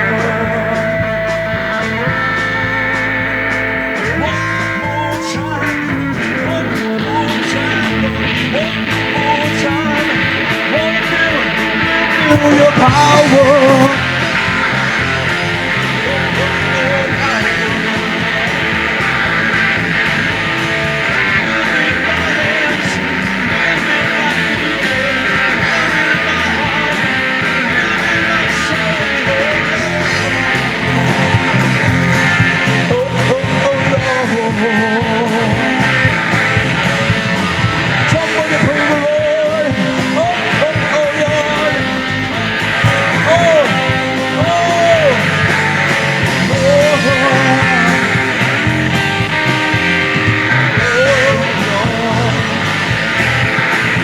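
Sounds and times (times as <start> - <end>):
lead guitar bent notes: 0.0 - 54.0
rock band playing instrumental: 0.0 - 54.0.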